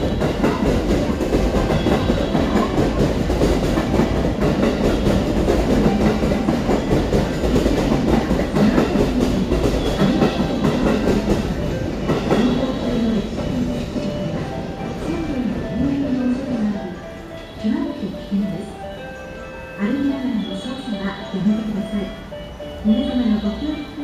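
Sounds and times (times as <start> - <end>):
freight train rumble: 0.0 - 24.0.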